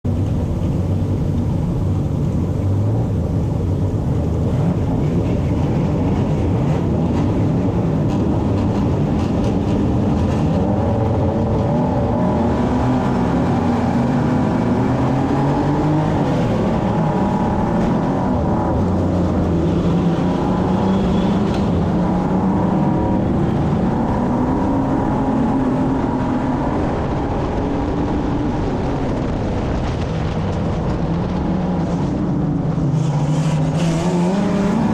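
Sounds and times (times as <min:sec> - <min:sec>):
race car engine revving: 0:00.9 - 0:34.9.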